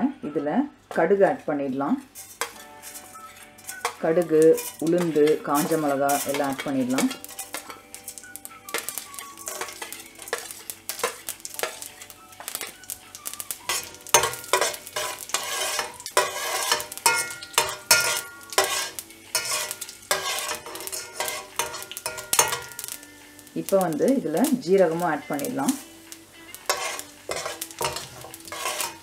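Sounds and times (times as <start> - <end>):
spoon scraping pan: 1.2 - 29.0
seeds sizzling in hot oil: 1.3 - 29.0.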